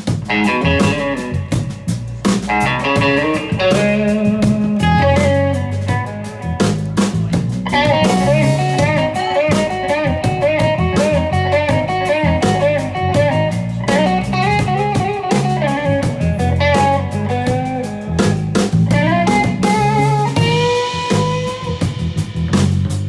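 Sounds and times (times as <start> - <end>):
bass guitar: 0.0 - 23.0
drum kit: 0.0 - 23.0
lead electric guitar bending notes: 0.0 - 23.0.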